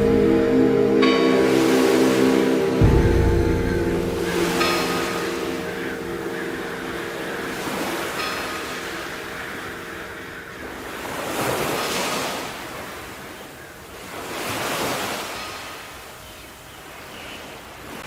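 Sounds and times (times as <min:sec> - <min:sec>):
sea waves washing in: 0:00.0 - 0:16.3.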